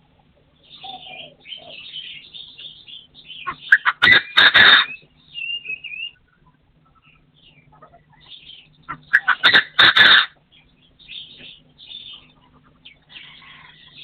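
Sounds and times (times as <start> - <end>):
partridge calling: 0.6 - 14.0.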